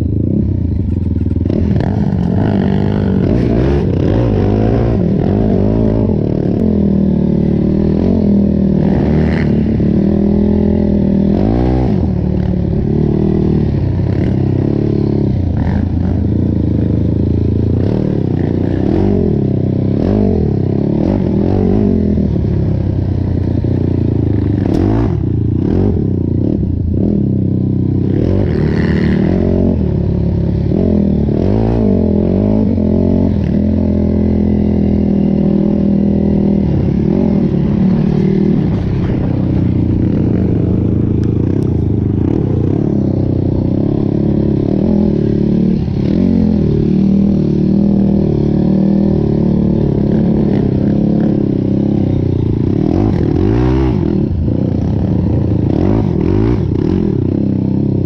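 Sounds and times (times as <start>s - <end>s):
quad engine revving: 0.0s - 22.9s, 23.6s - 58.0s.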